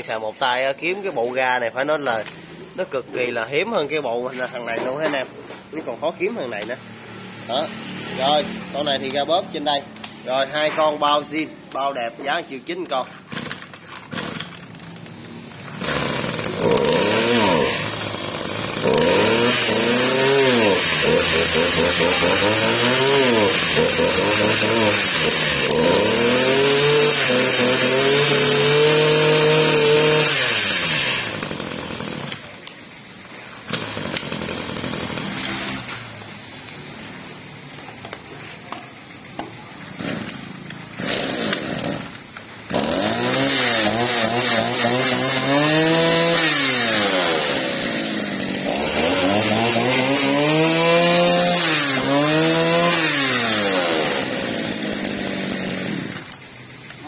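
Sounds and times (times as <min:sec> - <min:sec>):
brush cutter engine revving: 0:00.0 - 0:32.7, 0:33.6 - 0:36.2, 0:39.9 - 0:56.4.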